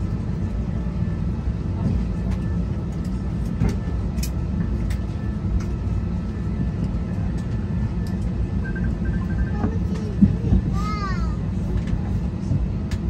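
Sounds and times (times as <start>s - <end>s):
low airliner cabin drone: 0.0s - 13.0s.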